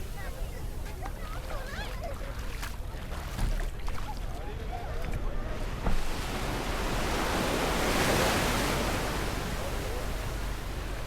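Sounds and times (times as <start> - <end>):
sea waves breaking: 0.0 - 11.0.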